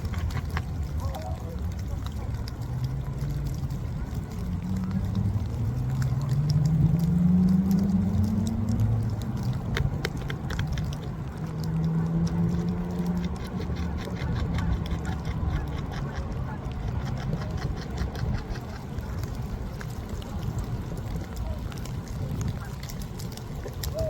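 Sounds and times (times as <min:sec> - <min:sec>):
light rain hiss: 0:00.0 - 0:14.6, 0:16.3 - 0:24.0
beaver gnawing wood: 0:00.0 - 0:24.0
low engine hum: 0:00.0 - 0:24.0.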